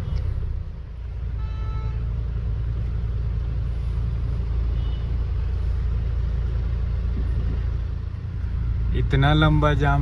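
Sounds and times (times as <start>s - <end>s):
vehicle engines idling: 0.0s - 10.0s.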